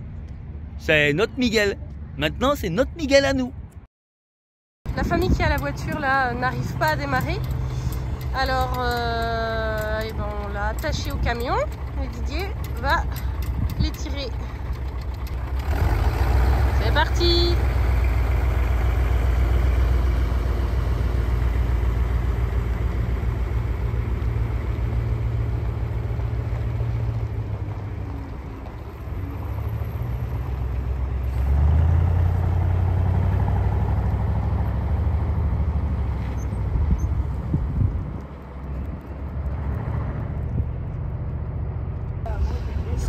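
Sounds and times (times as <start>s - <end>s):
truck diesel engine under load: 4.9s - 43.0s.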